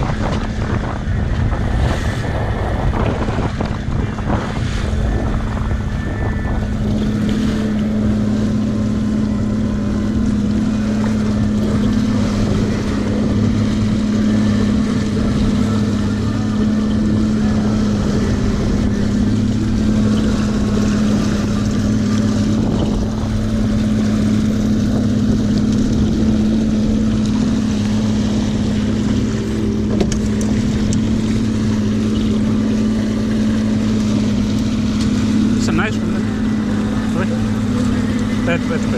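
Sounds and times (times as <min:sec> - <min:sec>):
boat motor running: 0:00.0 - 0:38.9
water noise: 0:00.0 - 0:38.9
wind: 0:00.0 - 0:38.9.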